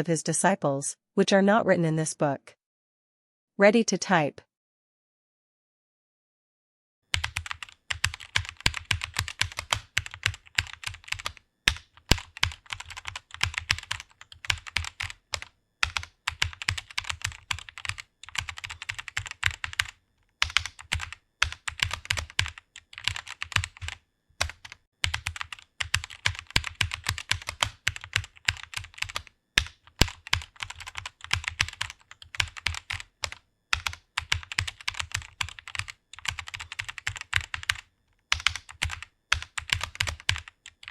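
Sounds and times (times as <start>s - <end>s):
fast typing on keyboard: 7.1s - 40.9s.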